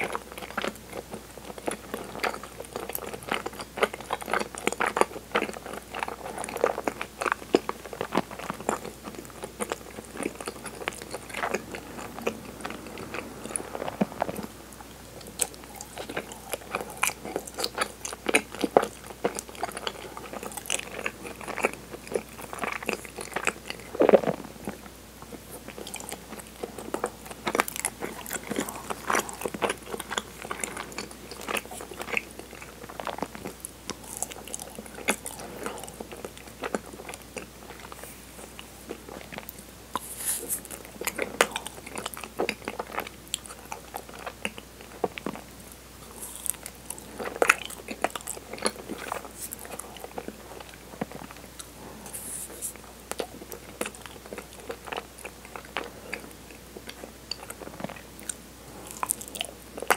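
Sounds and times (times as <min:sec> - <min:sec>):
close chewing mouth clicks: 0:00.0 - 0:59.9.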